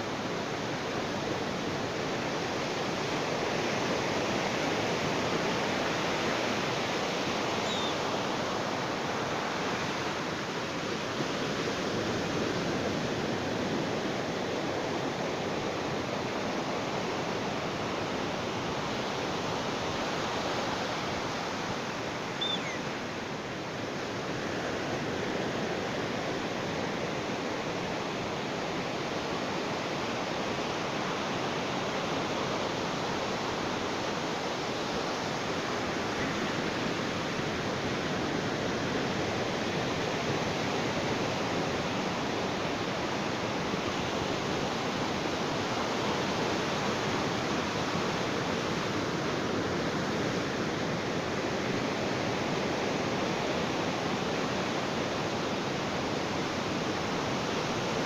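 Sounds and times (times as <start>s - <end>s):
ocean surf on a beach: 0.0s - 58.0s.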